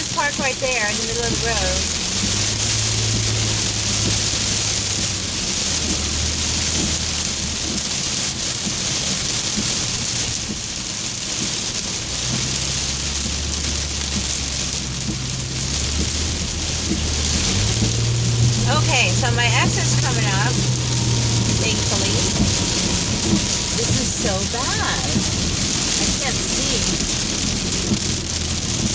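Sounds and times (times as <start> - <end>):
car engine hum: 0.0 - 28.9
heavy rain on car roof: 0.0 - 28.9
road noise: 0.0 - 28.9.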